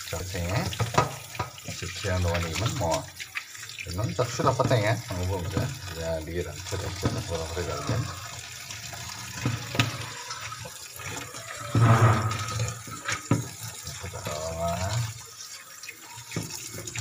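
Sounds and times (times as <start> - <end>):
tap water running into bowl: 0.0 - 17.0.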